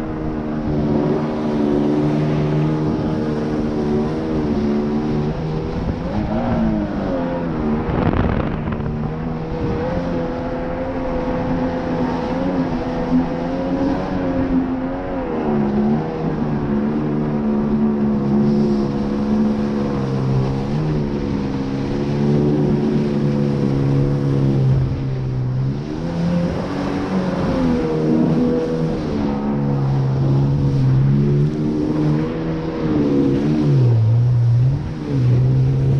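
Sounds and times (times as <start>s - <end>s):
jet ski engine running: 0.0s - 35.9s
rush of noise: 0.0s - 35.9s.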